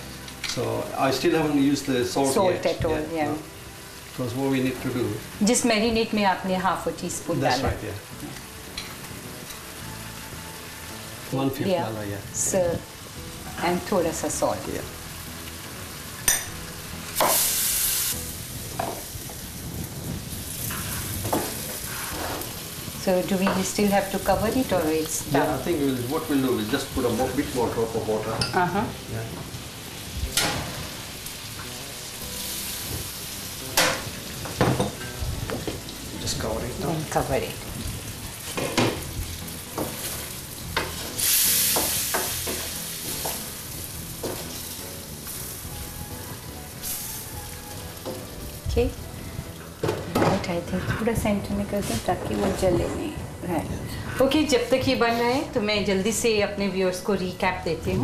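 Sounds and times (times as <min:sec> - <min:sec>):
chicken sizzling in a wok: 0:00.0 - 0:50.5.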